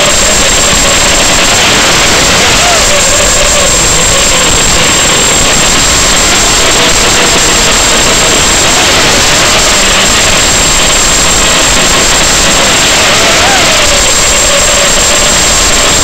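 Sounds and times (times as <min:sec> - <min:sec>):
faint wavering whine: 0:00.0 - 0:16.0
static hiss: 0:00.0 - 0:16.0.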